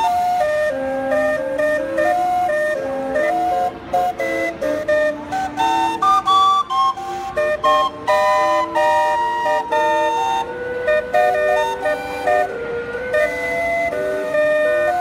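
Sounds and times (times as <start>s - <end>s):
steam calliope playing a tune: 0.0s - 15.0s.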